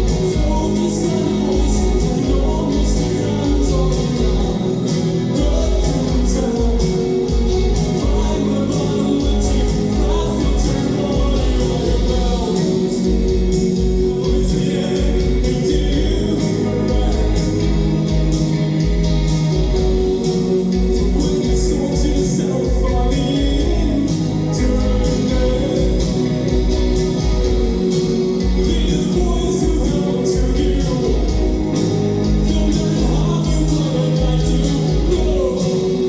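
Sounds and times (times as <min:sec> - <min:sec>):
live band playing: 0:00.0 - 0:36.0
person singing: 0:00.0 - 0:36.0
steady drum beat: 0:00.0 - 0:36.0.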